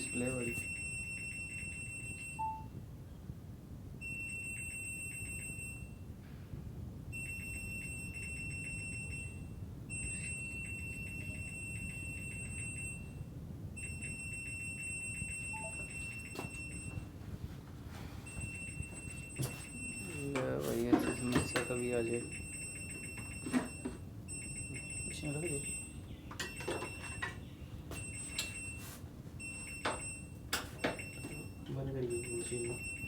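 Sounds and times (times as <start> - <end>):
washing machine rapid high beeps: 0.0 - 2.8, 4.0 - 6.1, 7.1 - 17.1, 18.3 - 33.0
low steady hum: 0.0 - 33.0.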